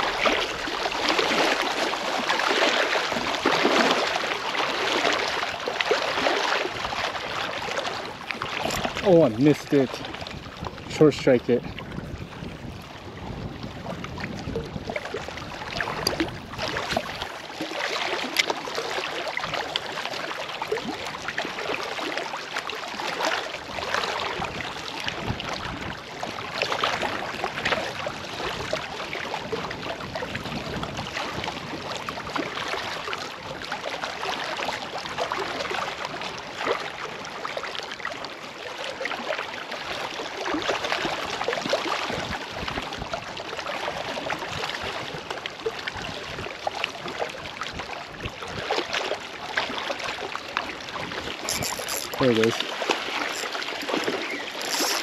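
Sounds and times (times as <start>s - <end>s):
waves lapping against rocks: 0.0s - 55.0s.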